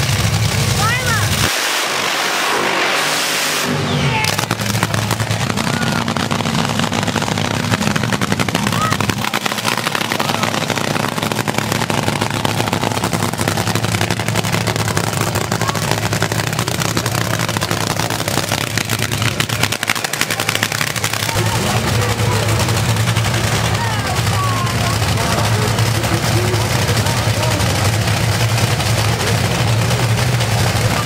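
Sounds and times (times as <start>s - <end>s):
dragster engine idling: 0.0s - 2.1s, 3.8s - 31.0s.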